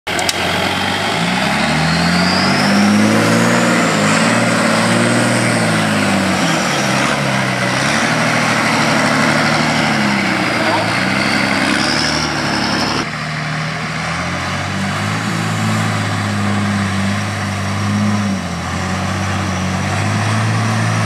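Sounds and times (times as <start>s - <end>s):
diesel truck engine revving: 0.1s - 21.0s.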